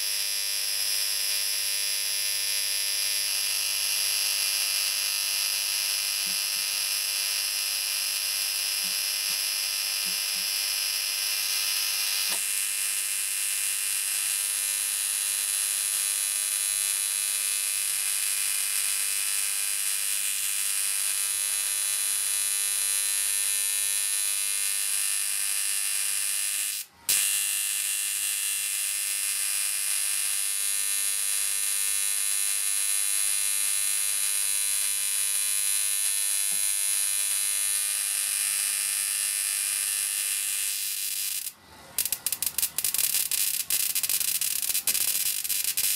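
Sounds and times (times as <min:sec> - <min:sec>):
electrical arcing buzz: 0:00.0 - 0:45.9.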